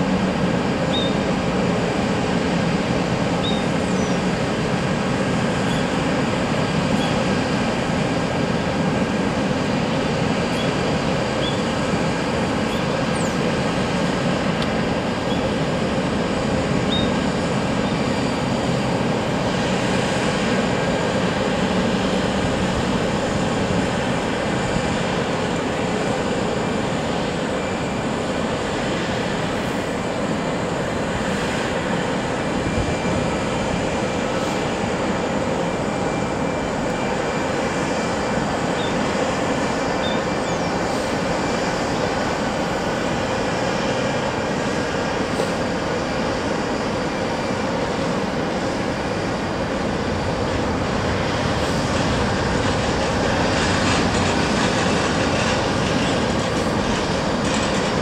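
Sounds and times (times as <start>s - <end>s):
jet engine whine: 0.0s - 58.0s
jet engines roaring: 0.0s - 58.0s.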